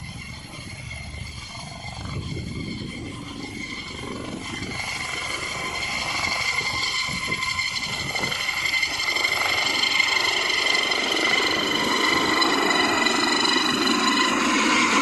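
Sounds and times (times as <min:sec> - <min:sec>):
helicopter rotor beat: 0:00.0 - 0:15.0
helicopter turbine whine: 0:00.0 - 0:15.0.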